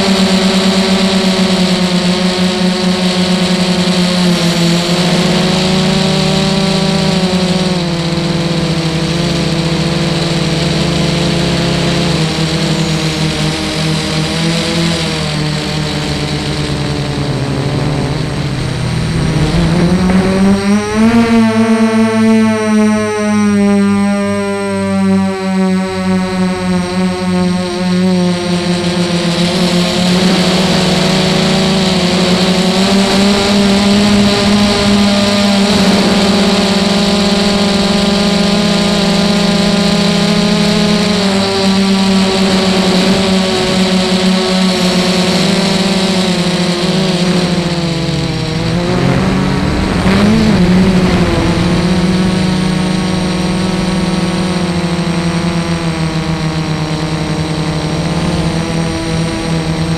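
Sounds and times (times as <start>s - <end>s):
drone motors and propellers whining: 0.0s - 59.9s.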